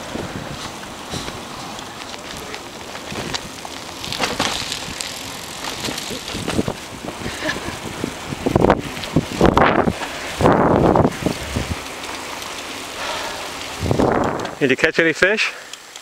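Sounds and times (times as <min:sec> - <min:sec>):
bicycle tyre and wind noise: 0:00.0 - 0:16.0
bicycle clicks and rattles: 0:00.6 - 0:16.0.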